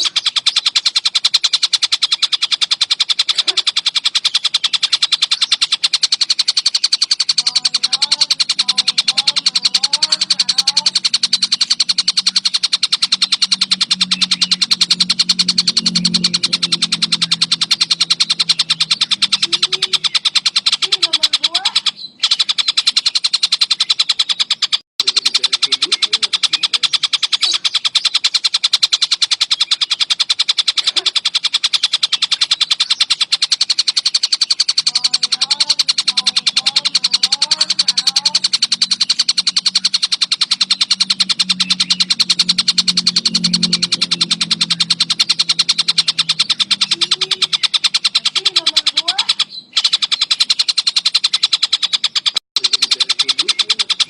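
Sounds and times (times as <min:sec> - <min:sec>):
faint wavering bird calls: 0:00.0 - 0:54.0
kingfisher rattling trill: 0:00.0 - 0:54.0.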